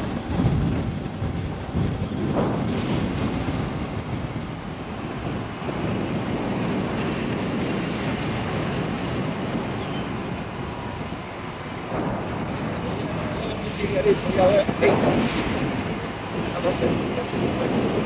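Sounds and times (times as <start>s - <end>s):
vehicle road noise: 0.0s - 18.0s
wind buffeting microphone: 0.0s - 18.0s.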